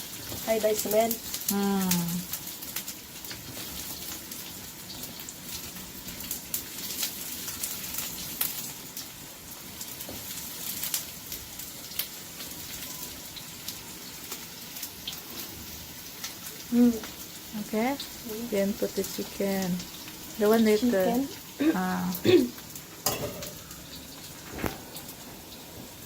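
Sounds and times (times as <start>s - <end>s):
ginger and garlic sizzling in oil: 0.0s - 26.0s.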